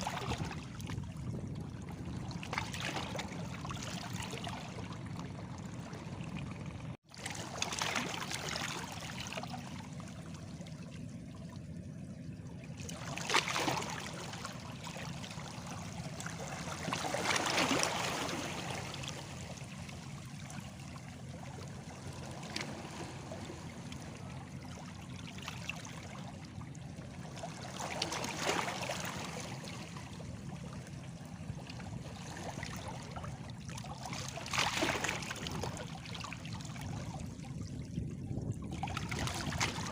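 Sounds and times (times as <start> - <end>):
waves lapping against stones: 0.0 - 5.0, 5.8 - 10.3, 12.8 - 26.4, 27.2 - 30.9, 31.8 - 39.9.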